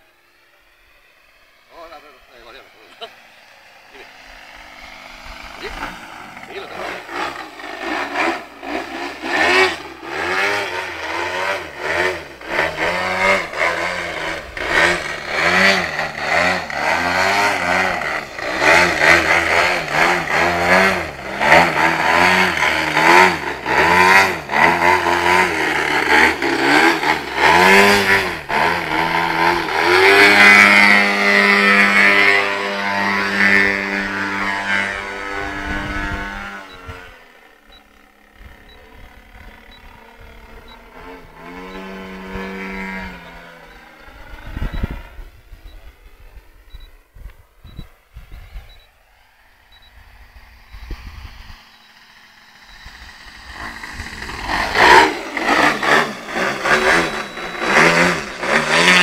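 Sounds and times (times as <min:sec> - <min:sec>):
model airplane engine revving: 0:00.0 - 0:59.0.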